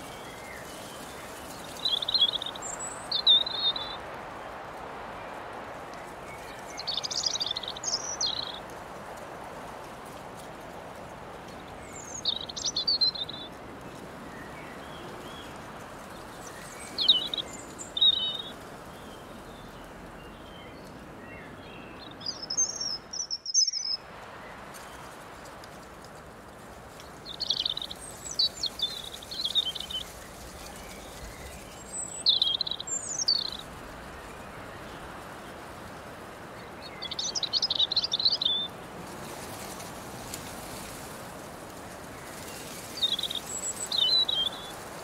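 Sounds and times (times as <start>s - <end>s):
small birds chirping: 0.0s - 4.6s, 5.2s - 8.8s, 11.4s - 25.8s, 26.5s - 45.0s.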